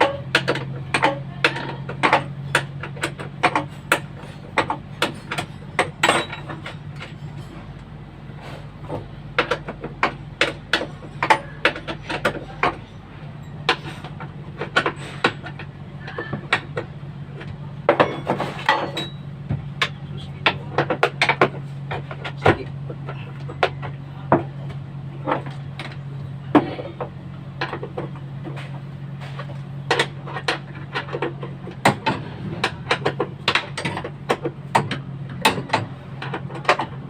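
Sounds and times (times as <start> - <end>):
hand tools knocking and clinking: 0.0 - 7.9, 8.9 - 37.0
steady low hum: 0.0 - 37.0.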